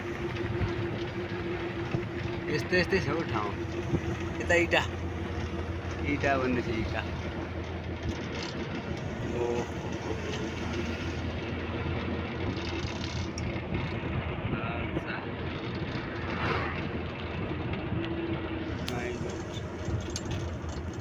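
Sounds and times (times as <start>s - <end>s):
vehicle interior running noise: 0.0s - 21.0s.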